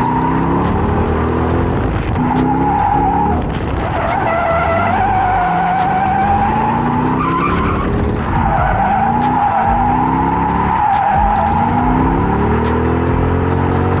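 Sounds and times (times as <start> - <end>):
car engine revving: 0.0 - 14.0
tires squealing: 0.0 - 14.0.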